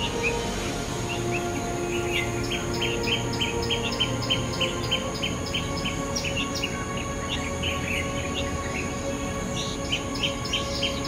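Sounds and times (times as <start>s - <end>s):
small bird chirping: 1.1s - 11.0s.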